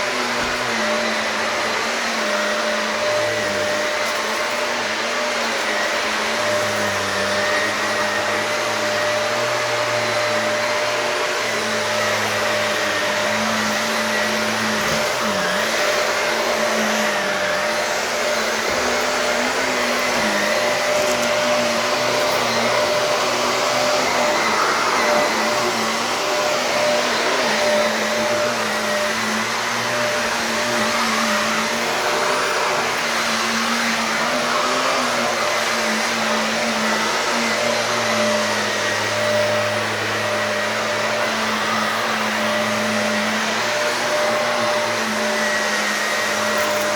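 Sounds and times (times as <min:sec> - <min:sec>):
vacuum cleaner running on carpet: 0:00.0 - 0:46.9.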